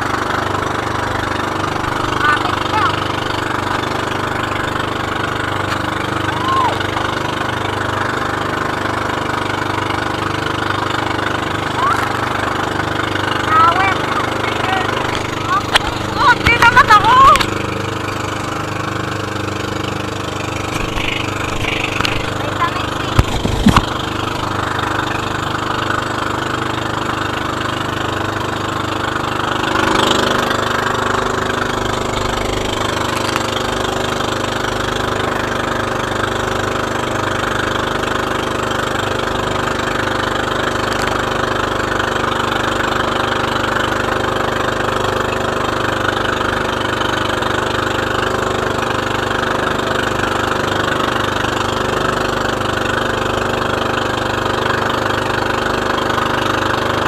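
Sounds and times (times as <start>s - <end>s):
boat engine running: 0.0s - 57.0s
water rushing along hull: 0.0s - 57.0s.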